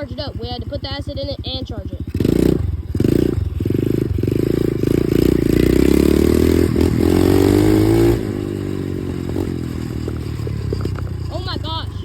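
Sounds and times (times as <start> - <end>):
dirt bike engine under throttle: 0.0 - 12.0.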